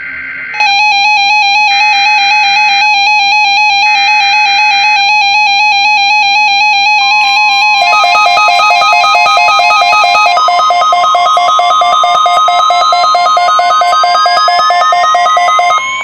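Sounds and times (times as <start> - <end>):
steady tone: 0.4 - 16.0
digital data tone bursts: 0.6 - 16.0.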